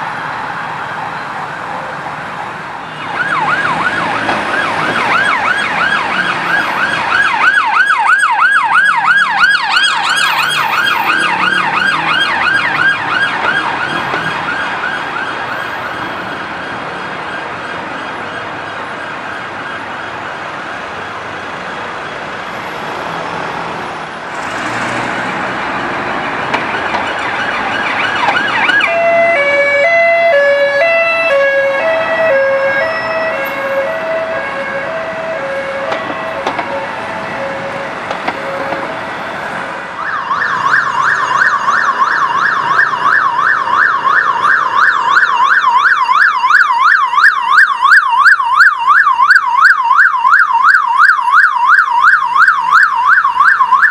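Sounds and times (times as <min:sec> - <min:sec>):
police sirens: 0:00.0 - 0:53.9
traffic: 0:00.0 - 0:53.9.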